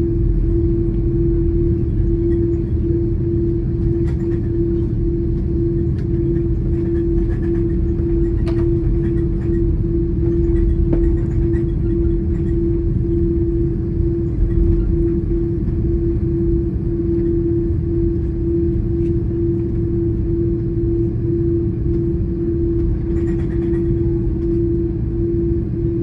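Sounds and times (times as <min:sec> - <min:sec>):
jet engines idling hum: 0:00.0 - 0:26.0
low cabin rumble: 0:00.0 - 0:26.0.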